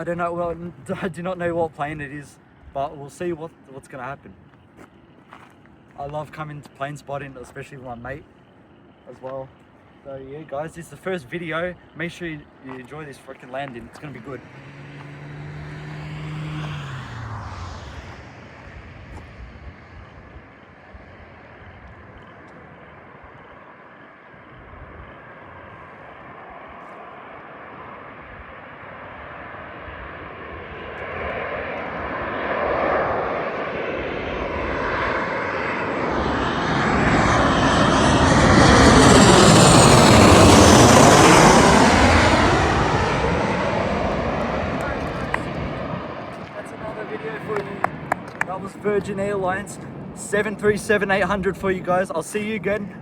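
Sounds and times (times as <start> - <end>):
jet airliner landing: 0.0 - 53.0.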